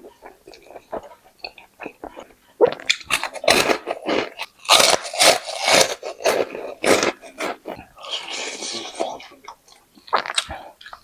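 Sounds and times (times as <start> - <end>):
loud chewing and crunching: 0.0 - 11.0.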